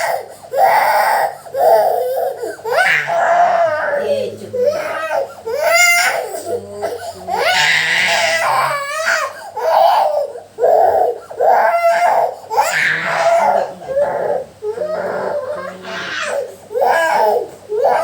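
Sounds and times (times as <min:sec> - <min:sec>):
small child crying: 0:00.0 - 0:18.0.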